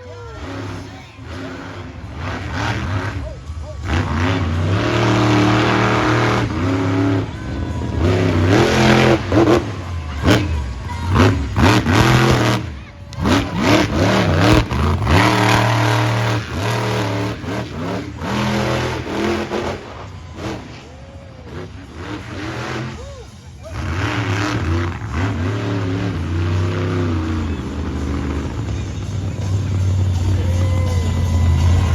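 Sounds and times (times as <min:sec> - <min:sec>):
truck engines revving: 0:00.0 - 0:31.9.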